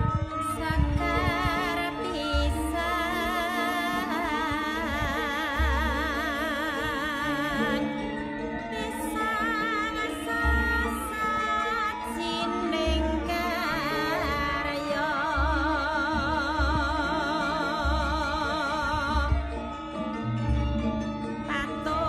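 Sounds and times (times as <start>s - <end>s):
person singing long held notes: 0.0s - 20.5s
deep low drum beats: 0.0s - 22.0s
gamelan music: 0.0s - 22.0s.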